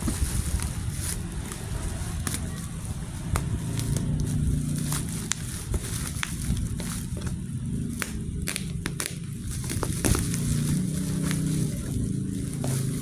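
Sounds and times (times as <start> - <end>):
plastic packaging crackling: 0.0 - 13.0.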